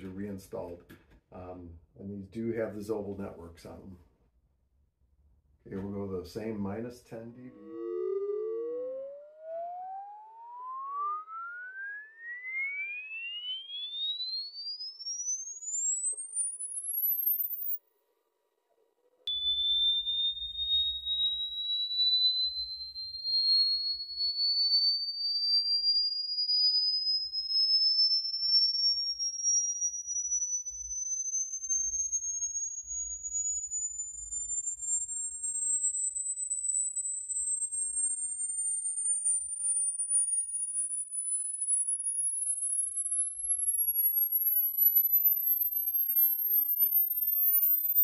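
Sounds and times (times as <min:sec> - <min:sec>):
faint falling tone: 0:05.7 - 0:17.8, 0:18.7 - 0:48.0
rising sine-wave sweep tone: 0:06.3 - 0:18.0, 0:19.3 - 0:48.0.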